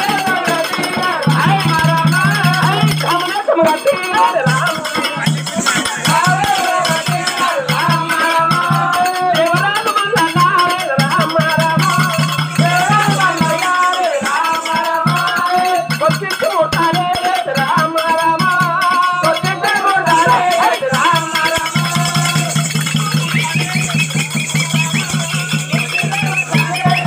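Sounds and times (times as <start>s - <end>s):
folk dance music: 0.0s - 10.2s, 11.0s - 16.0s, 18.9s - 27.0s
jingling bells: 0.0s - 27.0s.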